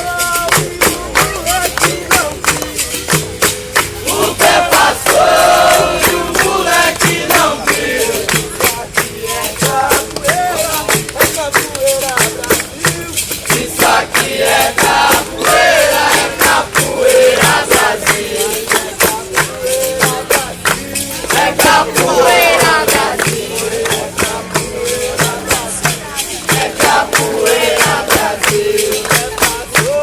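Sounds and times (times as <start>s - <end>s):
group singing call-and-response: 0.0s - 30.0s
percussion beats: 0.0s - 30.0s.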